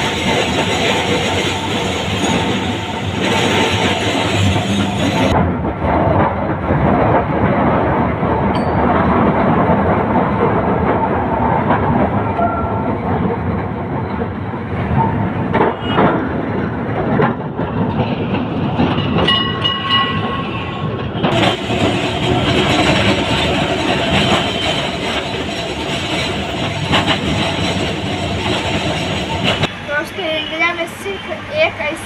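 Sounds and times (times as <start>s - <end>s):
tram rumbling and clattering: 0.0s - 32.0s.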